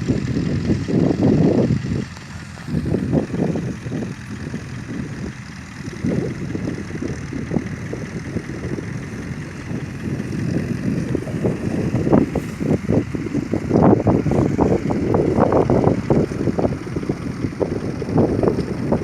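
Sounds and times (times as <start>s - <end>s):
dump truck engine rumbling: 0.0s - 19.0s.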